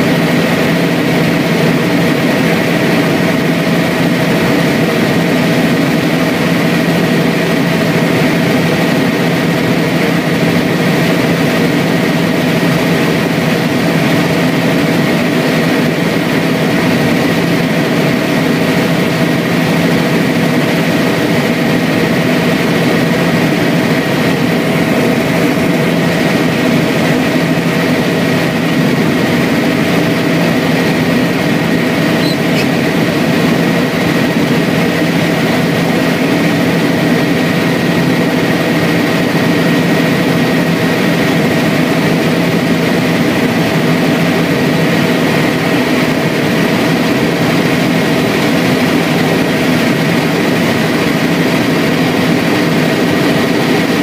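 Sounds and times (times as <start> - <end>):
helicopter engine and rotor drone: 0.0 - 54.0
thin steady whine: 0.0 - 54.0.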